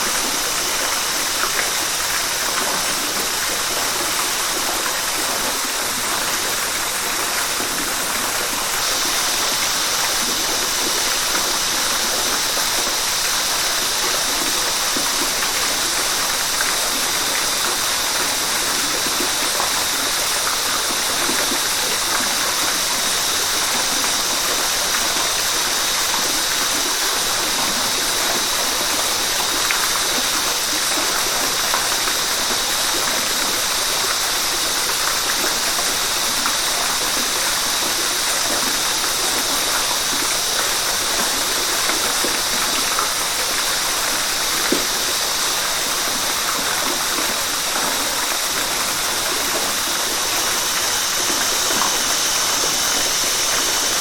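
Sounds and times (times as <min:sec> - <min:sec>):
high-pitched hiss: 0:00.0 - 0:54.0
river water rushing: 0:00.0 - 0:54.0.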